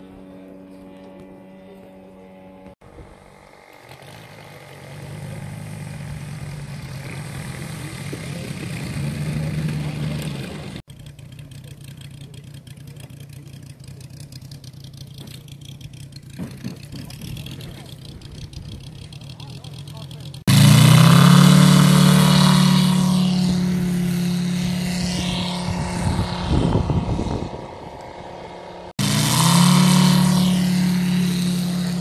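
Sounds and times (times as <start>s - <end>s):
model plane piston engine: 0.0s - 32.0s.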